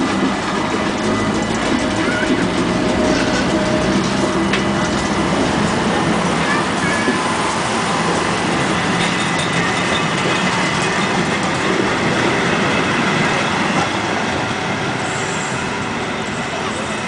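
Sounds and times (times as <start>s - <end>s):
electric train passing: 0.0s - 17.0s
train wheels rumbling on rails: 0.0s - 17.0s.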